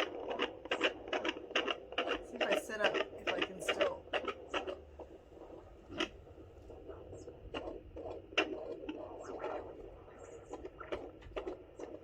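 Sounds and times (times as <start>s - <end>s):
doppler probe scratchy rubbing and clicks: 0.0s - 12.0s
faint steady low hum: 0.0s - 12.0s.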